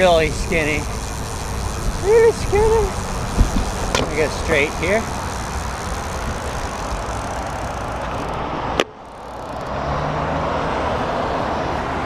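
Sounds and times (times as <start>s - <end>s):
bike wind and road noise: 0.0s - 12.0s
passing cars: 0.0s - 12.0s.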